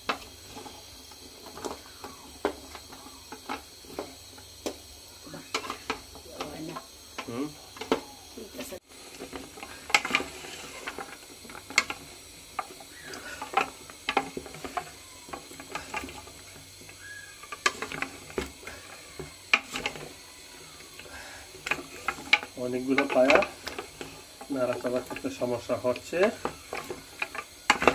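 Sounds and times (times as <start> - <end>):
bones clacking in metal pot: 0.0 - 27.9.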